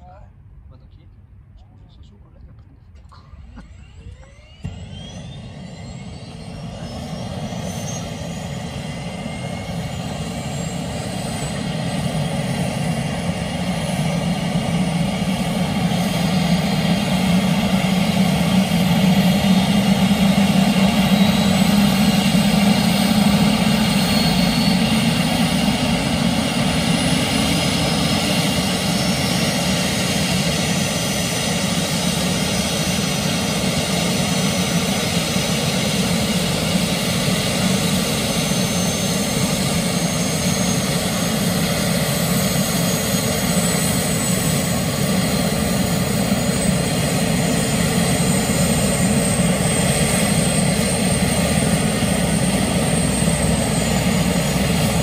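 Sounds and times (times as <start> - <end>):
helicopter turbine whine: 0.0 - 55.0.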